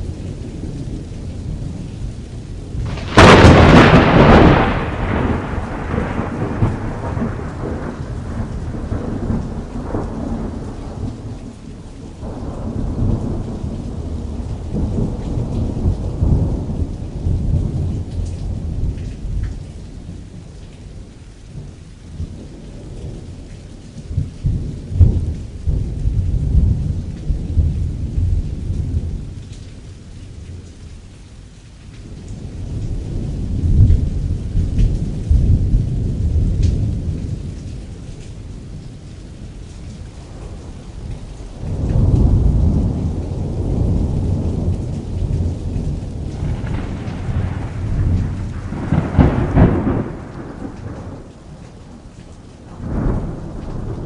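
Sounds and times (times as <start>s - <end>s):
thunder crack and rumbling: 0.0s - 20.6s, 21.5s - 29.6s, 32.0s - 54.0s
rain falling on canvas: 0.0s - 54.0s.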